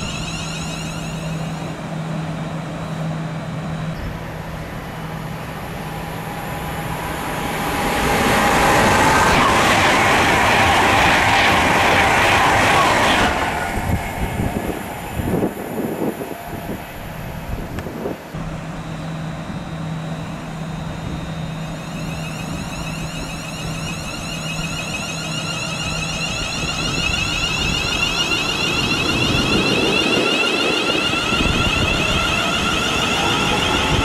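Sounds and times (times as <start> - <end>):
train approaching at speed: 0.0 - 34.0
train passing: 0.0 - 34.0.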